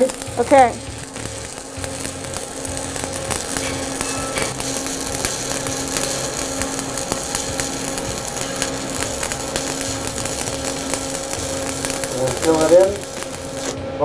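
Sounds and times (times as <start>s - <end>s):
steady low hum: 0.0s - 14.0s
welding arc crackling: 0.0s - 14.0s.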